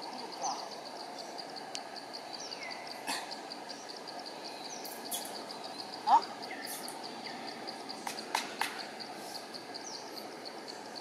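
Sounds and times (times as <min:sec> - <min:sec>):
background hiss: 0:00.0 - 0:11.0
insect chirping in pulses: 0:00.0 - 0:11.0.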